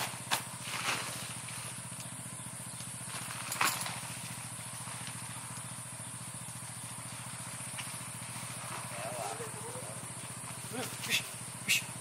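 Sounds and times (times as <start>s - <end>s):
motor idling: 0.0s - 12.0s.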